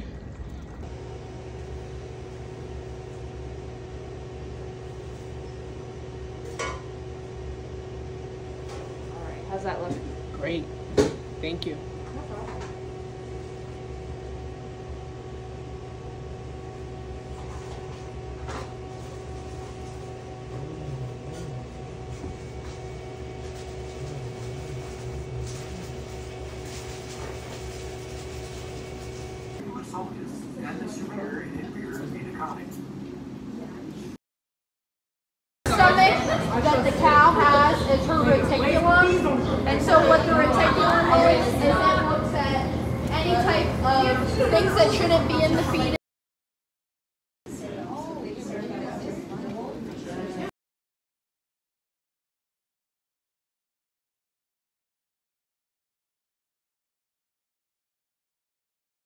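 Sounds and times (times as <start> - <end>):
electrical hum of kitchen equipment: 0.0 - 34.2, 35.7 - 46.0, 47.5 - 50.5.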